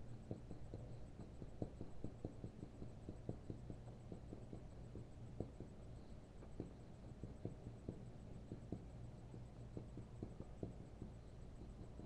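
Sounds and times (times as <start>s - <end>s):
faint soft tapping: 0.0s - 12.0s
low steady hum: 0.0s - 12.0s.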